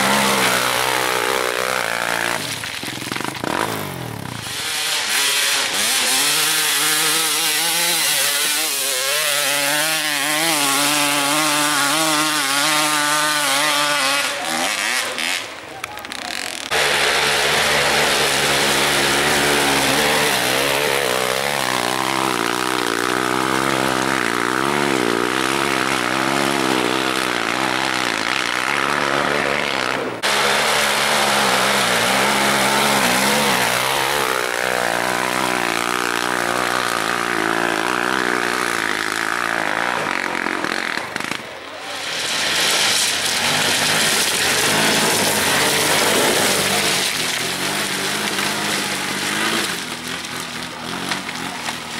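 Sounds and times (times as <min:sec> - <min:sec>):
off-road vehicle engines revving: 0:00.0 - 0:51.9.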